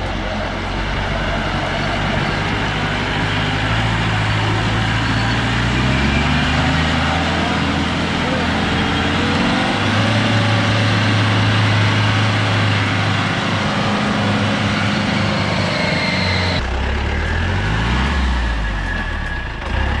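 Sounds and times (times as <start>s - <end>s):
jeep engine straining in mud: 0.0s - 20.0s.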